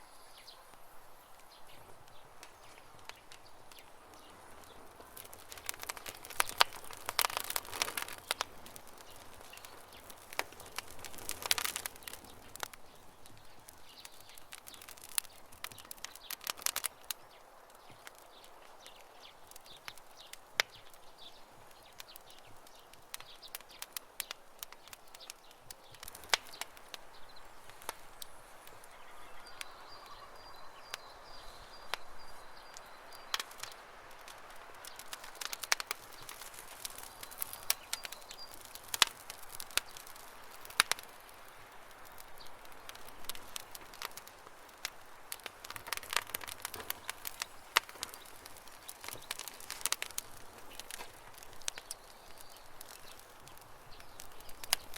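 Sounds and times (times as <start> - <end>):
birds chirping faintly: 0.0 - 54.9
campfire crackling: 0.0 - 54.9.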